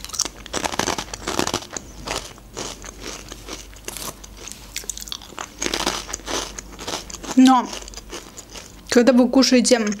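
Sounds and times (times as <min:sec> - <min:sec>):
crunchy croutons being chewed: 0:00.0 - 0:09.1.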